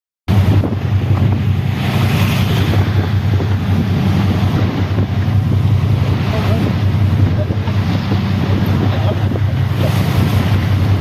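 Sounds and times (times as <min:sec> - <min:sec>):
boat engine humming: 0:00.3 - 0:11.0
sea wash: 0:00.3 - 0:11.0
wind noise on microphone: 0:00.3 - 0:11.0.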